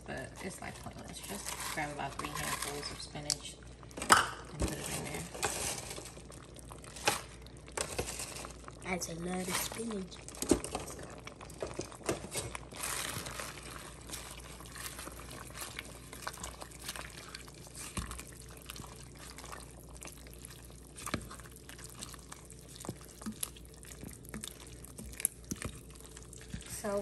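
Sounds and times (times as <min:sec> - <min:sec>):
wet sloshing of soup: 0:00.4 - 0:27.0.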